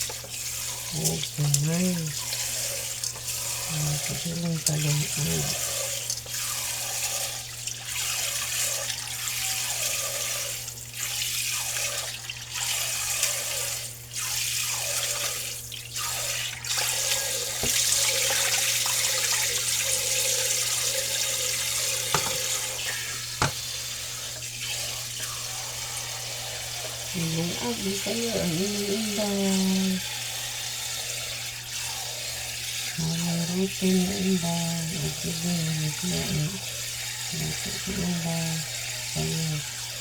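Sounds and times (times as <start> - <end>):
dishes being washed: 0.0 - 40.0
tap water running into sink: 0.0 - 40.0.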